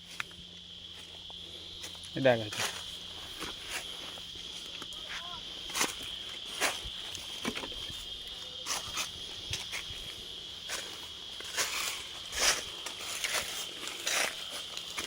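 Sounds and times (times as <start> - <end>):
footsteps on outdoor path: 0.0 - 15.0
insects droning: 0.0 - 15.0.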